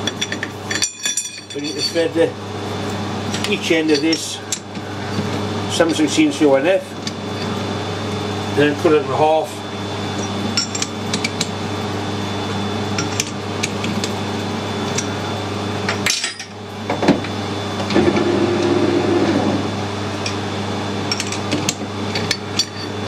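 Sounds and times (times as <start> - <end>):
metal lathe running: 0.0 - 23.0.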